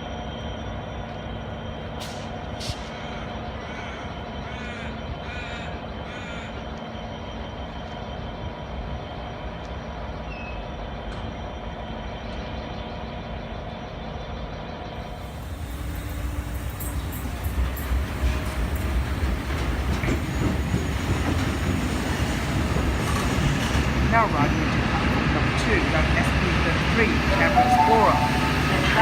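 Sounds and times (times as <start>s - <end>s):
approaching train: 0.0s - 29.0s
idling diesel train rumble: 0.0s - 29.0s.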